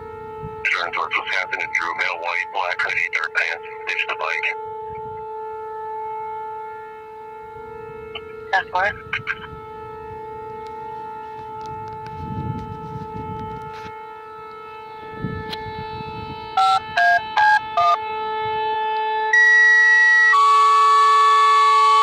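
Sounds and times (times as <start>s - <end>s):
loud steady paging tone: 0.0s - 18.4s, 19.2s - 22.0s
droning radio tone: 0.0s - 22.0s.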